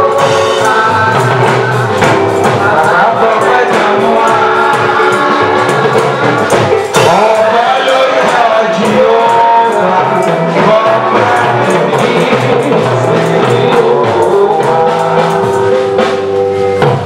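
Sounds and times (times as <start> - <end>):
gospel singing: 0.0 - 16.5
drum kit beat: 0.0 - 17.0.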